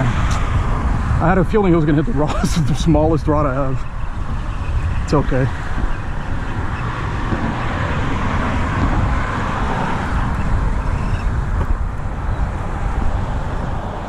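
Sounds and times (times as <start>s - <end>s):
traffic rushing on bridge: 0.0s - 14.0s.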